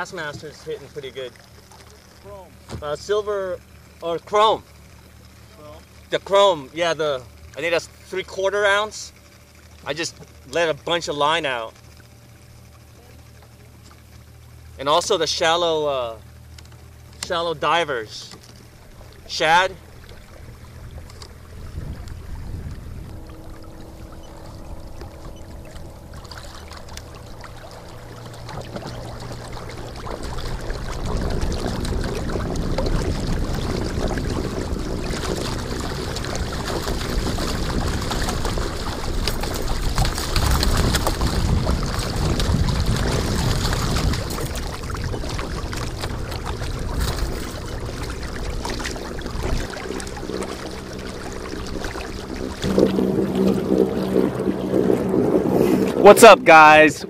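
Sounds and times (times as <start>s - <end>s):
low boat rumble: 0.0s - 57.0s
water splashing along boat hull: 0.0s - 57.0s.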